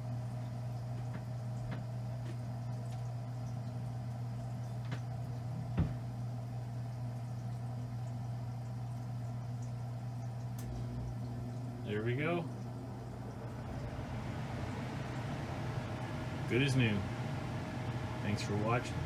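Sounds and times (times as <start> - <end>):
gas furnace humming: 0.0 - 19.0.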